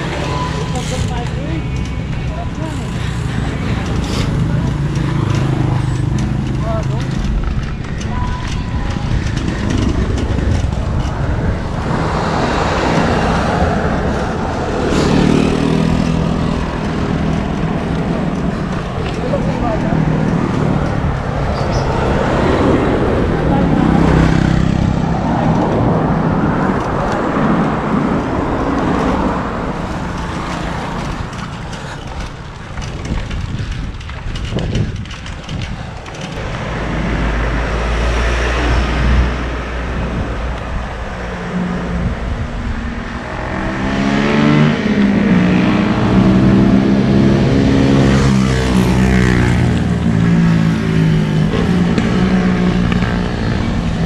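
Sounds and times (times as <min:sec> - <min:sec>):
motor traffic passing: 0:00.0 - 0:54.0
wind rushing over microphone: 0:02.8 - 0:54.0.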